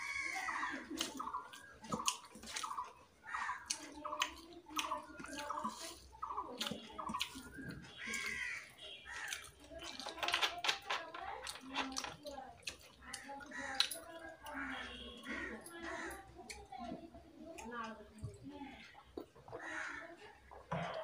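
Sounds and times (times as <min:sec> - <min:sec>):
chewing: 0:00.0 - 0:21.0
fingers squishing food: 0:00.0 - 0:21.0.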